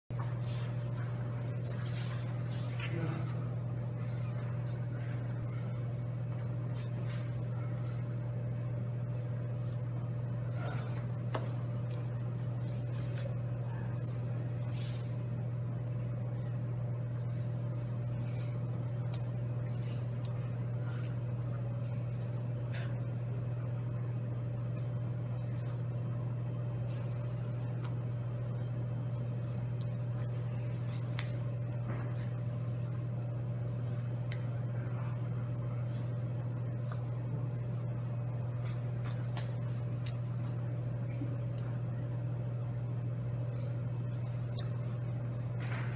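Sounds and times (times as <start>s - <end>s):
low electrical hum: 0.1s - 45.9s.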